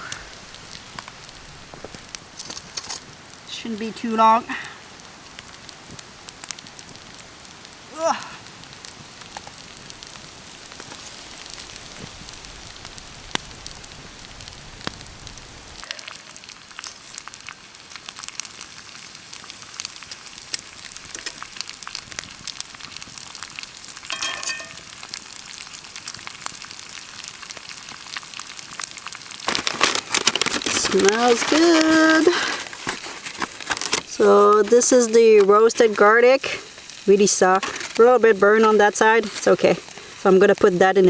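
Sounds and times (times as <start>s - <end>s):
campfire crackling: 0.0s - 41.0s
vegetables sizzling on a grill: 0.0s - 41.0s.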